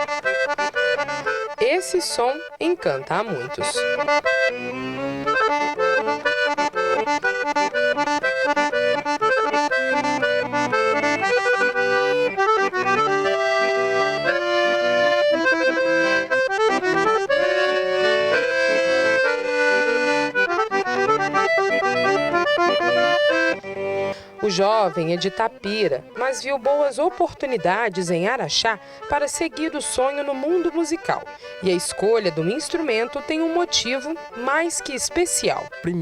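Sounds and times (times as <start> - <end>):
accordion playing lively tune: 0.0 - 36.0.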